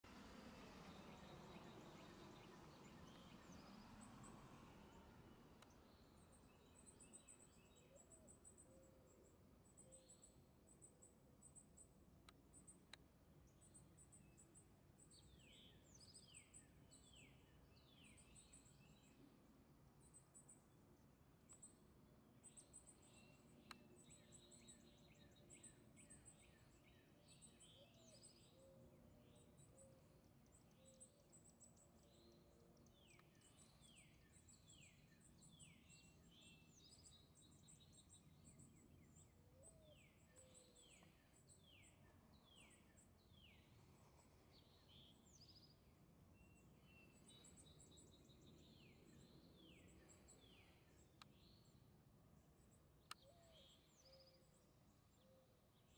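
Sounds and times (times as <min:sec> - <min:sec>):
low steady background hiss: 0:00.1 - 0:55.9.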